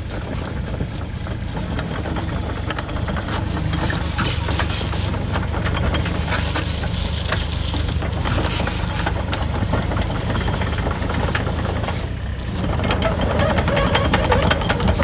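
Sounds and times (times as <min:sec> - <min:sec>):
excavator diesel engine running: 0:00.0 - 0:15.0
light clicks and knocks: 0:00.1 - 0:15.0.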